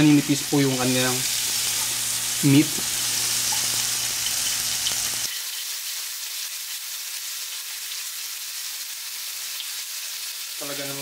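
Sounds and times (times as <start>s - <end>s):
meat sizzling on grill pan: 0.0s - 11.0s.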